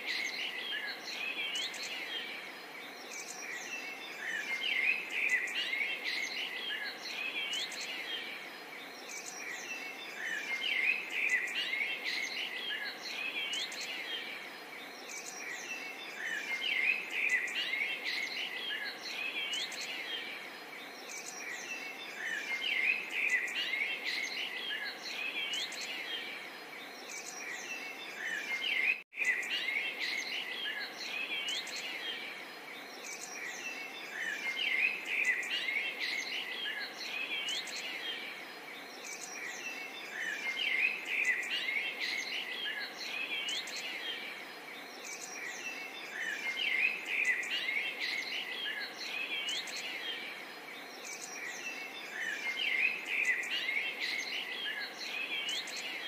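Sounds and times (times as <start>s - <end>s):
faint steady hiss: 0.0s - 56.0s
songbirds chirping and singing: 0.0s - 56.0s.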